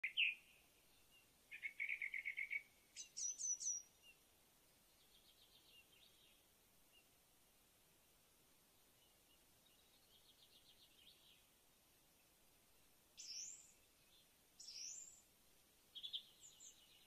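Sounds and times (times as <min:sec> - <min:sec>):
songbirds singing: 0:00.0 - 0:07.5, 0:08.2 - 0:17.0.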